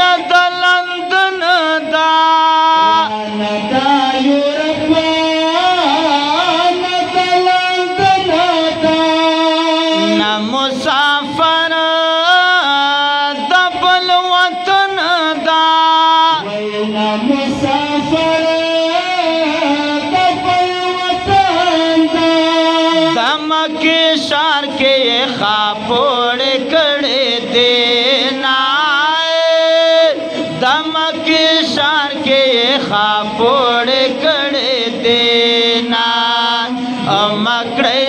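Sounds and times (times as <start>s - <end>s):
men singing into microphones: 0.0s - 38.0s.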